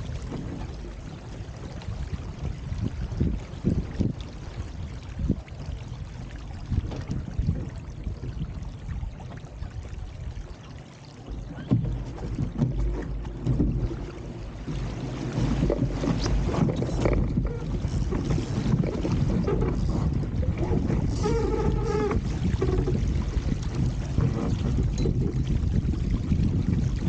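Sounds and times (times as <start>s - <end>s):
wind buffeting microphone: 0.0s - 10.5s, 11.2s - 27.0s
hull slapping through water: 0.0s - 27.0s.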